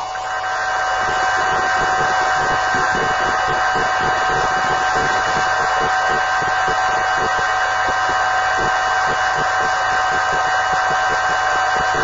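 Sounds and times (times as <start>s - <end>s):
constant whining tones: 0.0s - 12.0s
fast irregular low crackle: 0.8s - 12.0s.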